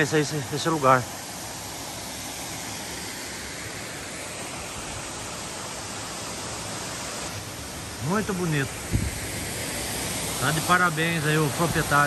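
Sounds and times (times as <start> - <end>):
waterfall and creek running: 0.0 - 12.0.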